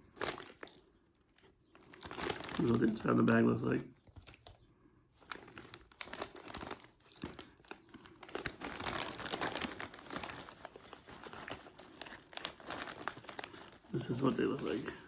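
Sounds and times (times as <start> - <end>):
chip bag crinkling: 0.0 - 15.0.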